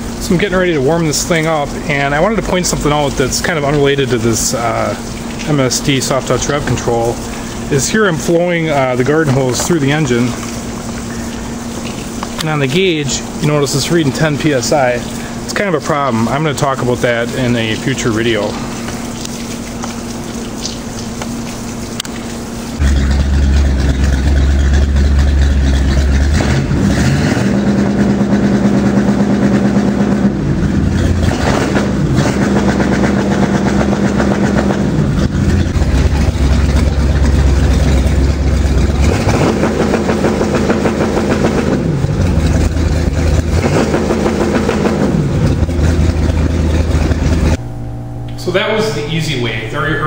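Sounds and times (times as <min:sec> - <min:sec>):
boat engine revving and misfiring: 0:00.0 - 0:47.8.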